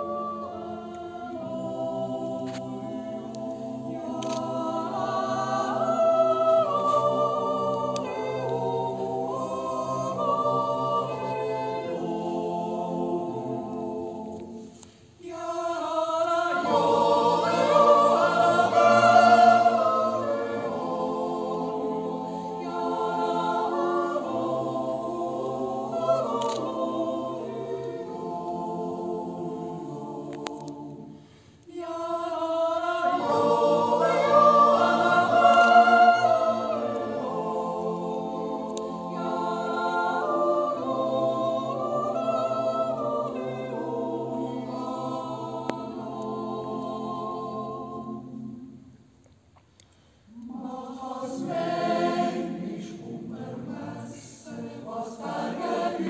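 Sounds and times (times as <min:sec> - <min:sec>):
mixed choir yodelling a cappella: 0:00.0 - 0:49.0, 0:50.3 - 0:56.0.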